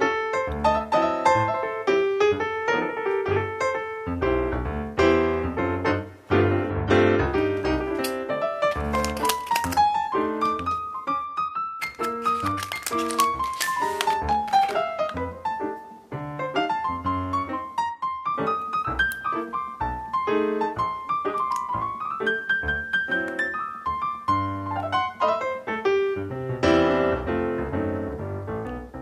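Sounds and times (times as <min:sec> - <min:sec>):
quick piano melody: 0:00.0 - 0:29.0.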